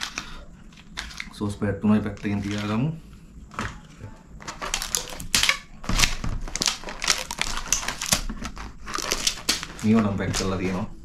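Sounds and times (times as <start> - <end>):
paper wrapping crinkling: 0.0 - 2.9, 3.5 - 11.0.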